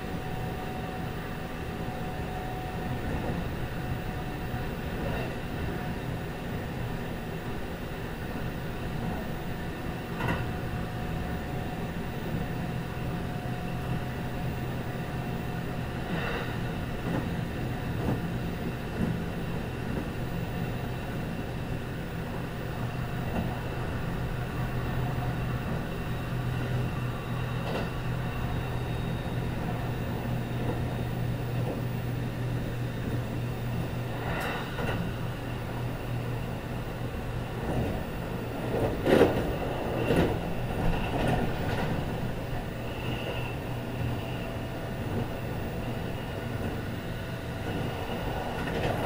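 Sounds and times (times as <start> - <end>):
rumble of wheels on rail: 0.0 - 49.0.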